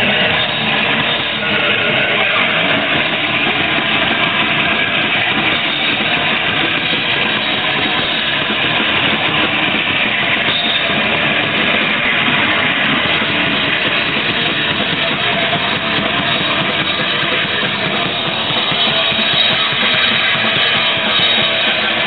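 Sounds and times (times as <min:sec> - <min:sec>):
distorted punk band playing live: 0:00.0 - 0:22.0.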